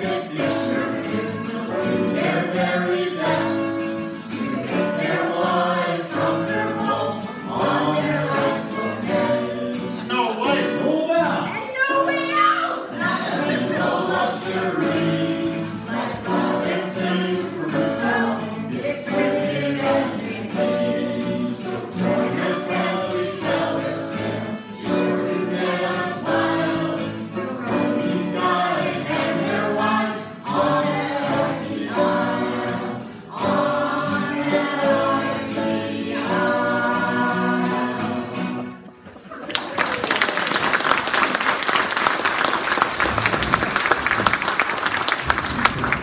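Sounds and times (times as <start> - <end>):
group singing together: 0.0 - 11.6, 12.6 - 39.0
acoustic guitar: 0.0 - 39.7, 40.7 - 46.0.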